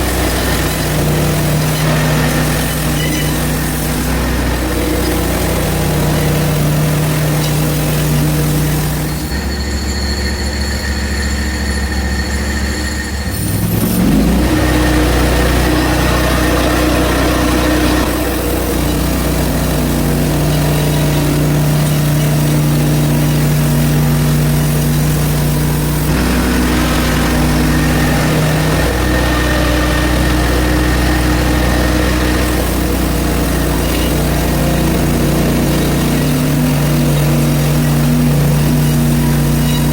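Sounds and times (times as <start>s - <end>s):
sawmill engine sawing log: 0.0s - 39.9s.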